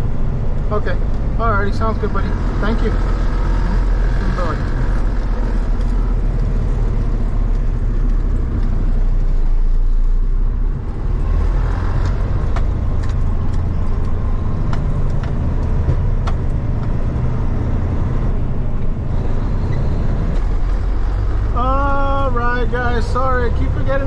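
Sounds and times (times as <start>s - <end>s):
delivery truck engine running: 0.0s - 24.0s
road rumble: 0.0s - 24.0s.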